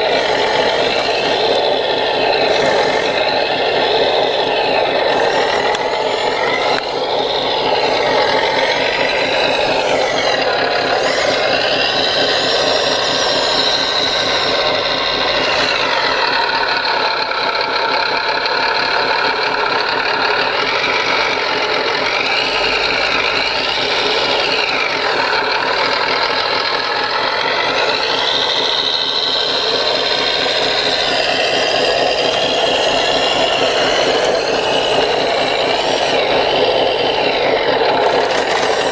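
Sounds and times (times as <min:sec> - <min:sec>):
electric motors and gears whining: 0:00.0 - 0:38.9
simulated diesel engine chugging: 0:00.0 - 0:38.9.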